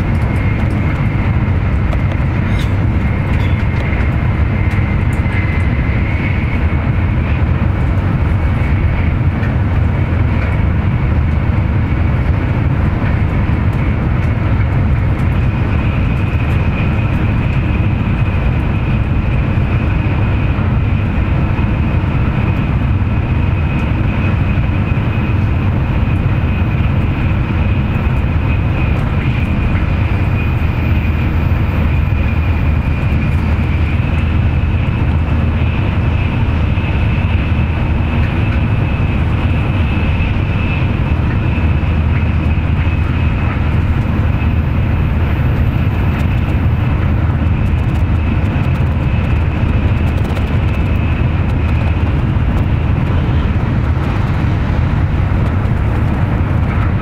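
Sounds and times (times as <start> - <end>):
train cabin low rumble: 0.0 - 57.0
wheels on rails rushing: 0.0 - 57.0.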